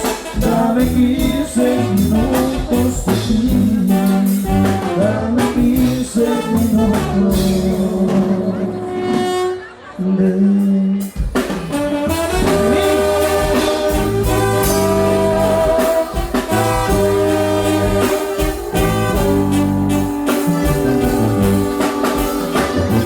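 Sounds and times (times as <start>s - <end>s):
steady drum beat: 0.0s - 8.6s, 11.0s - 23.0s
low tuba bass notes: 0.0s - 9.7s, 11.7s - 23.0s
held brass chords: 0.0s - 9.8s, 11.6s - 23.0s.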